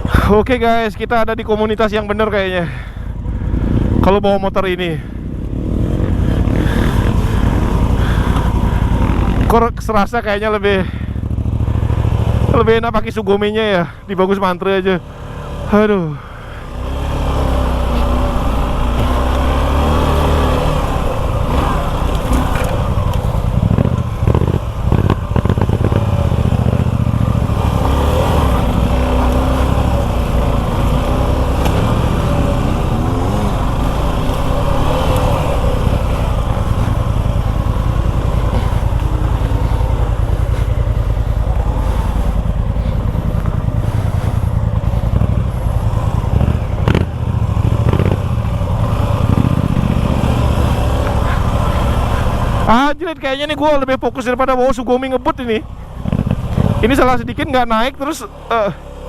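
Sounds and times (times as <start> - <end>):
motorcycle engine at low revs: 0.0 - 59.0.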